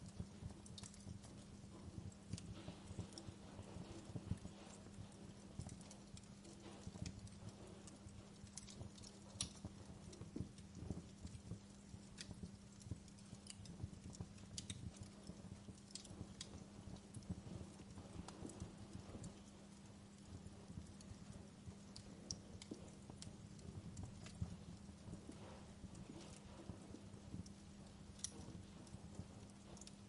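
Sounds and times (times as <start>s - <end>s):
low steady hum: 0.0s - 30.0s
wood fire crackling and popping: 0.0s - 30.0s.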